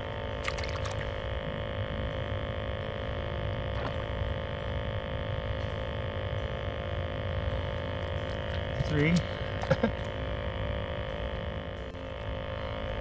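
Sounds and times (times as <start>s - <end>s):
hum of held tones: 0.0s - 13.0s
low unsteady rumble: 0.0s - 13.0s.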